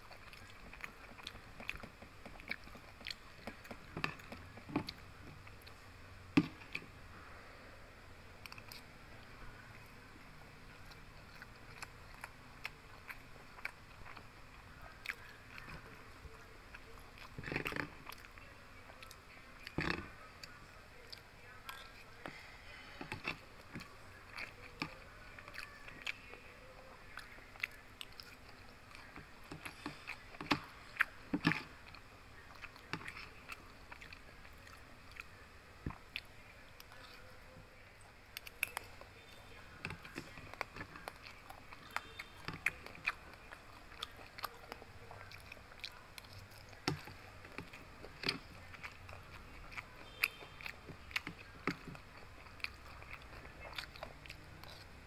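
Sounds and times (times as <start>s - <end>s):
chewing and biting food: 0.0s - 7.5s, 8.4s - 55.0s.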